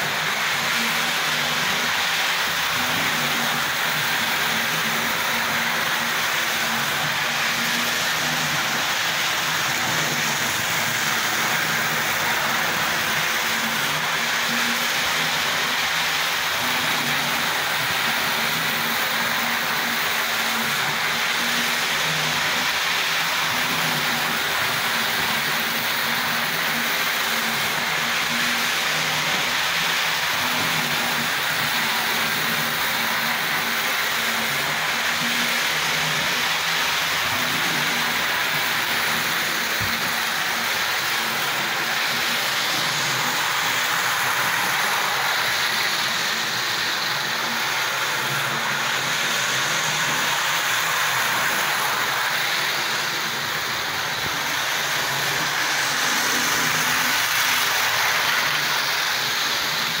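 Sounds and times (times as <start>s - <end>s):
model train motor whirring: 0.0s - 60.0s.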